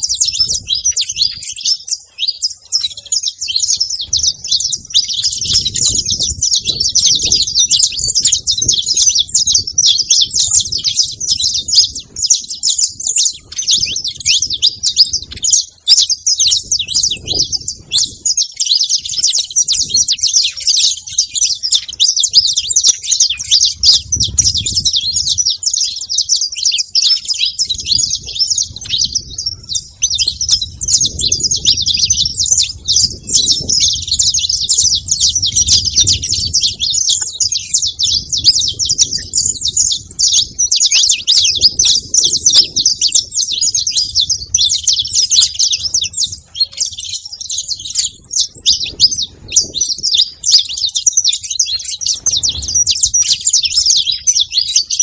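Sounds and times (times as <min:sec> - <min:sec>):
flock of finches chirping: 0:00.0 - 0:55.0.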